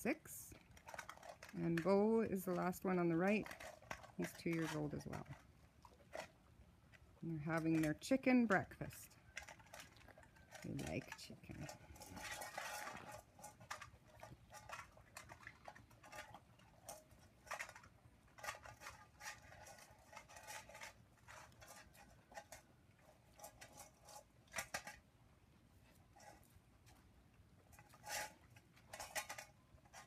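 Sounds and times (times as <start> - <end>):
dogs chewing and licking: 0.5 - 30.0.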